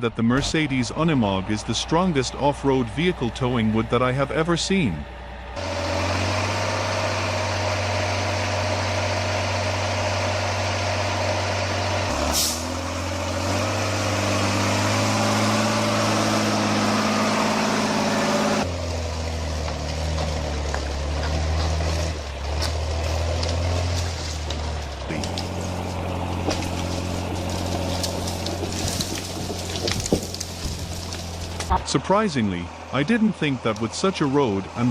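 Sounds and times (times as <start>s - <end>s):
diesel engine running under load: 0.0s - 34.9s.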